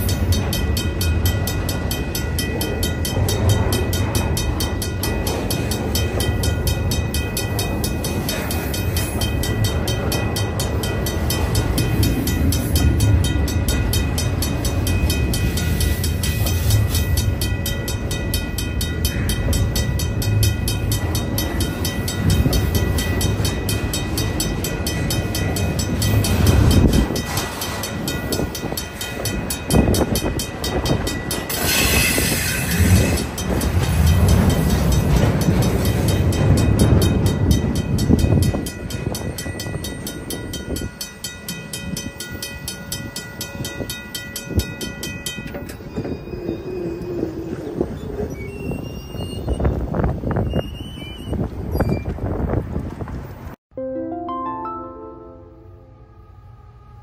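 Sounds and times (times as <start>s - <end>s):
train wheels rumbling on rails: 0.0s - 53.6s.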